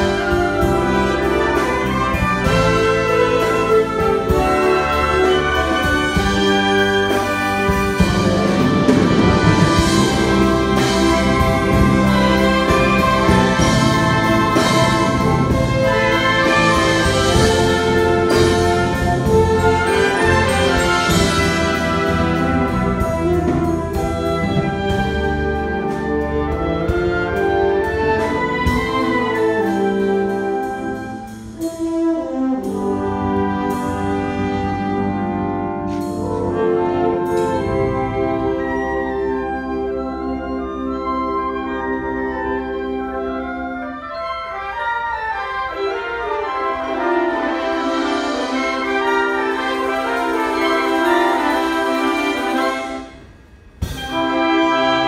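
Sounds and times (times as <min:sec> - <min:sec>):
wind orchestra playing: 0:00.0 - 0:55.0.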